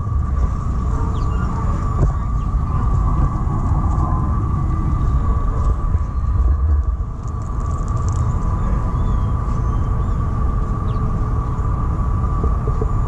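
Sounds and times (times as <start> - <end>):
mechanical lure whine: 0.0 - 13.0
wind rumble on microphone: 0.0 - 13.0.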